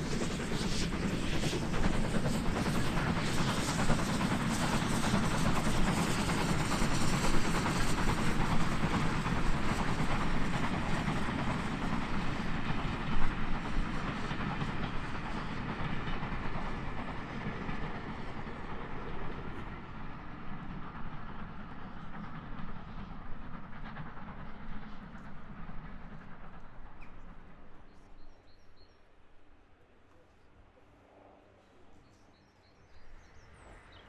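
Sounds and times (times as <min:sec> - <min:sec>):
train rumble and clatter: 0:00.0 - 0:34.0.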